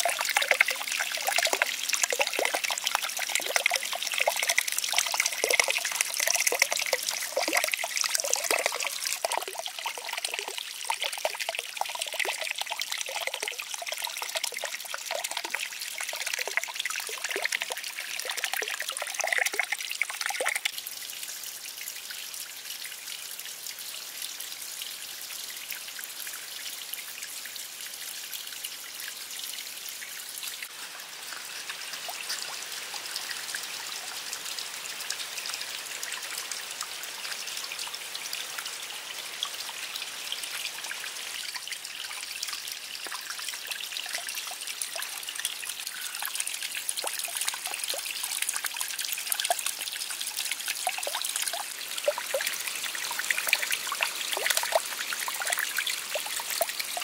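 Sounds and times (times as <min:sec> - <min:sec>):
water trickling into pond: 0:00.0 - 0:57.0.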